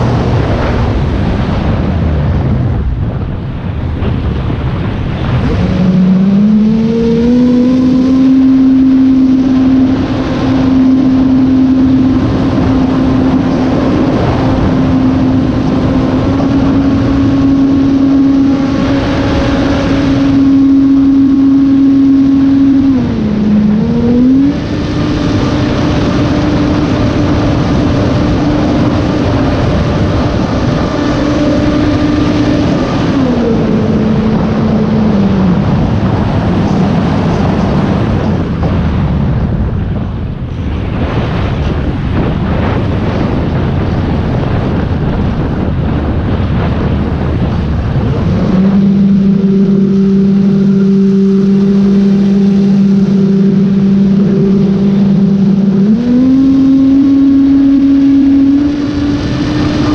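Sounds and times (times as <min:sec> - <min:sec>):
wind on microphone: 0:00.0 - 0:59.9
electric motor and propeller whine: 0:03.5 - 0:59.9.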